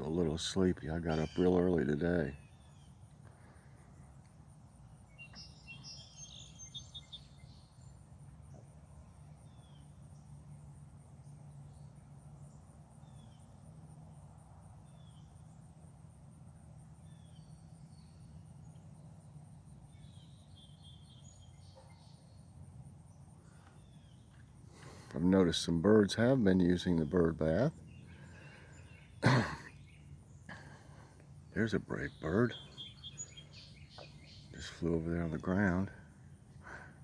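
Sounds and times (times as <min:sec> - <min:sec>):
songbirds twittering: 0:00.0 - 0:37.0.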